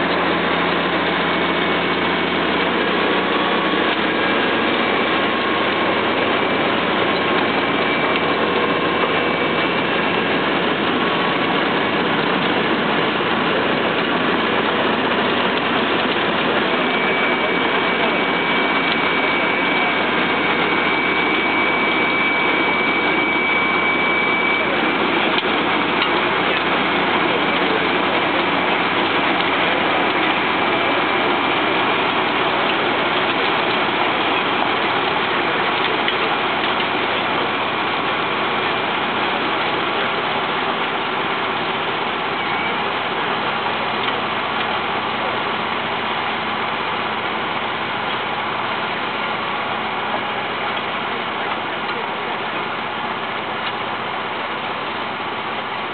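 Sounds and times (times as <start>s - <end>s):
thin high whine: 0.0s - 52.8s
soil sifting and pouring: 0.0s - 55.9s
tractor engine running: 0.0s - 55.9s.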